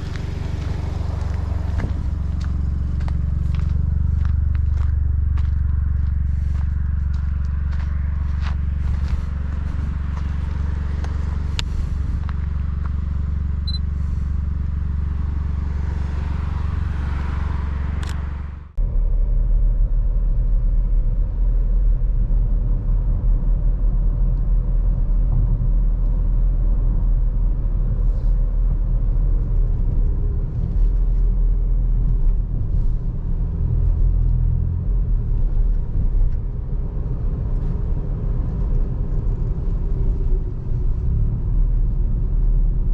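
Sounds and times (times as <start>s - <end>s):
car engine low rumble: 0.0s - 42.9s.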